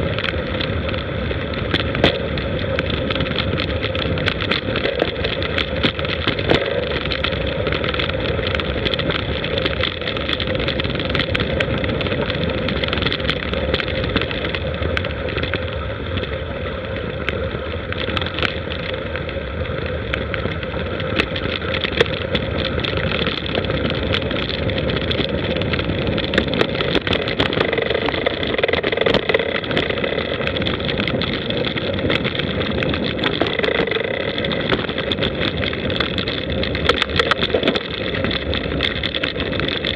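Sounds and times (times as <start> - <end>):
bicycle clicks and rattles: 0.0 - 39.9
bicycle tyre rumble: 0.0 - 39.9
wind rush on microphone: 0.0 - 39.9.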